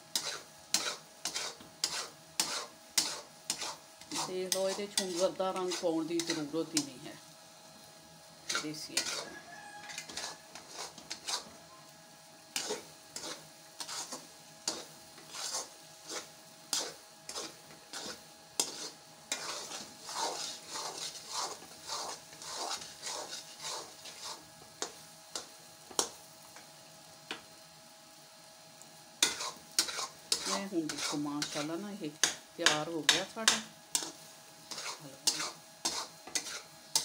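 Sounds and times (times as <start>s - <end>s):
food sizzling: 0.0s - 37.0s
metal spoon scraping a steel pan: 0.1s - 6.9s, 8.4s - 11.5s, 12.6s - 25.0s, 29.2s - 37.0s.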